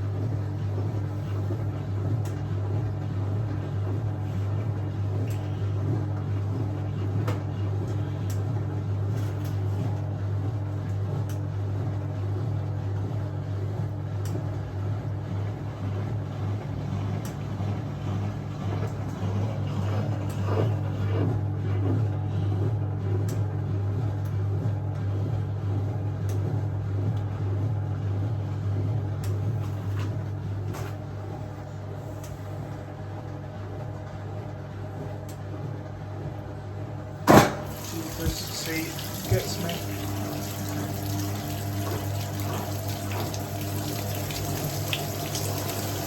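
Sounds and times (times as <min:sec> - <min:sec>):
washing machine motor humming: 0:00.0 - 0:46.0.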